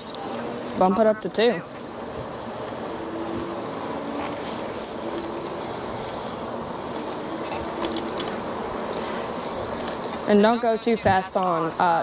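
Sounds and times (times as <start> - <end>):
bicycle riding rush: 0.0 - 12.0
electric motor hum: 0.0 - 12.0.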